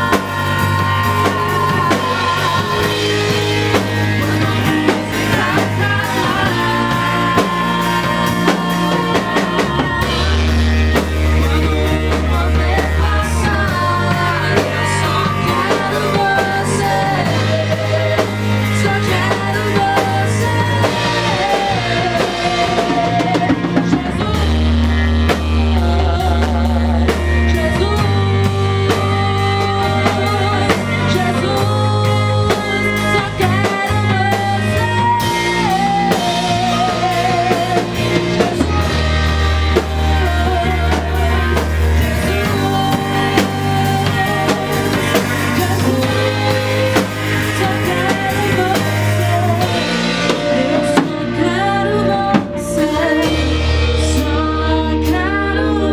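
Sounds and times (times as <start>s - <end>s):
gospel band playing: 0.0s - 55.9s
person singing: 0.0s - 55.9s.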